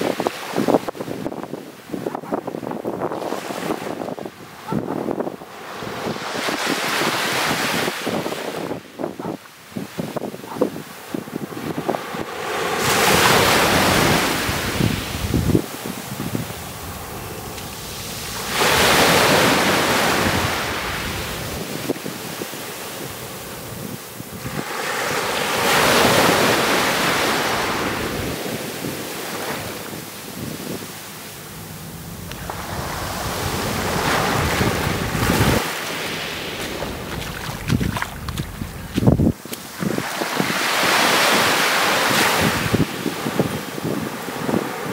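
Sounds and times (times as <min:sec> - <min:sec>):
waves washing on sandy beach: 0:00.0 - 0:44.9.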